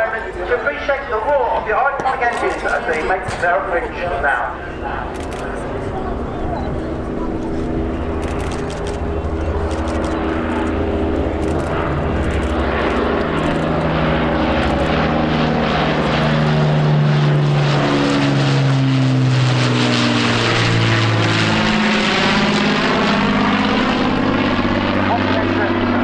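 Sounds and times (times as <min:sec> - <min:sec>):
propeller aircraft engines: 0:00.0 - 0:26.0.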